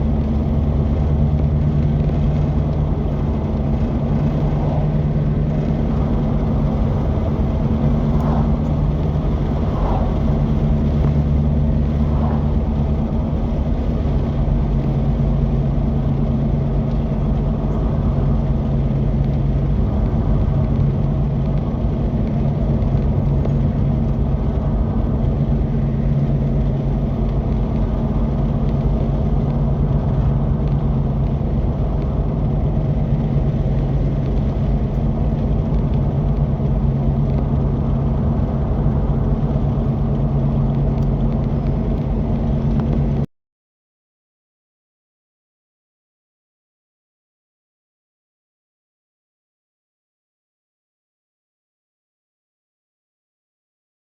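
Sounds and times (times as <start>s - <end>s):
utility vehicle engine running: 0.0s - 43.3s.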